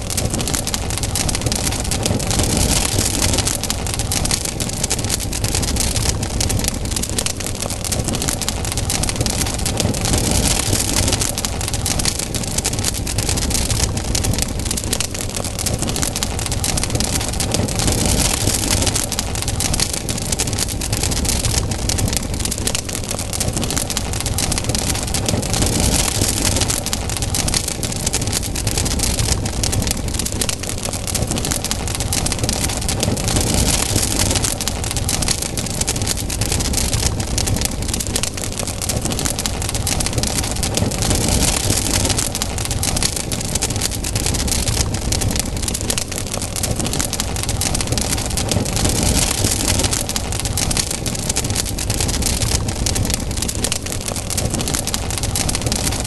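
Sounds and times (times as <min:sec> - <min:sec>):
campfire crackling and popping: 0:00.0 - 0:56.0
rush of flame: 0:00.0 - 0:56.0.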